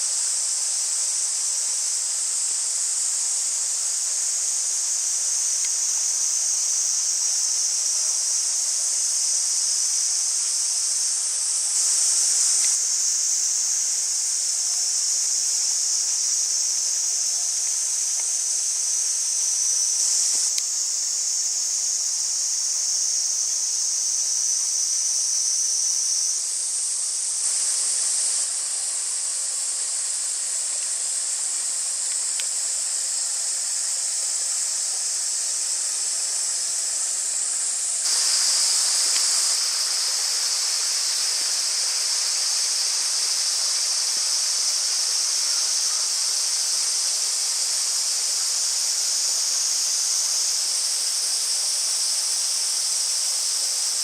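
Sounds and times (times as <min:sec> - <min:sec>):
insect chorus buzzing: 0:00.0 - 0:54.0.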